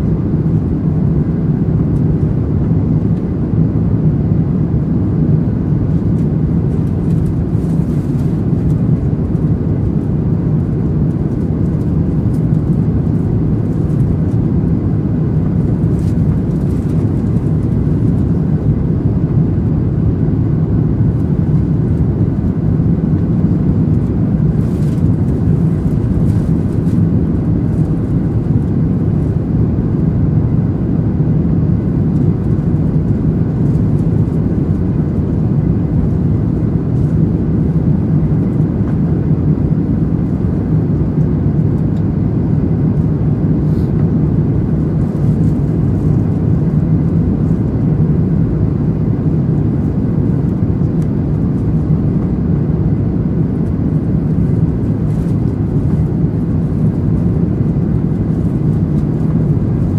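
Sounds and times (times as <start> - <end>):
airliner cabin engine rush: 0.0 - 59.9.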